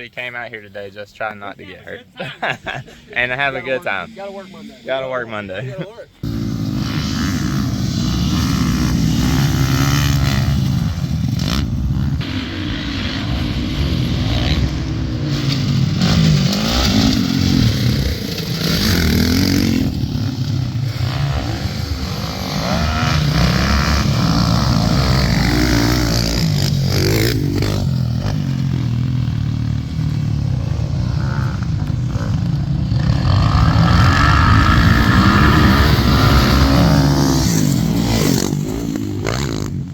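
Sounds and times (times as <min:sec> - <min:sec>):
dirt bike engine revving: 0:03.2 - 0:39.9.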